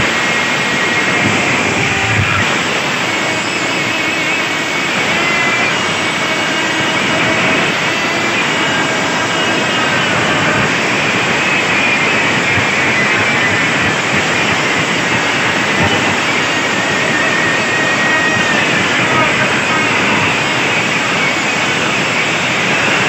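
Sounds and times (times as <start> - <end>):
loud speakers roaring: 0.0 - 23.0.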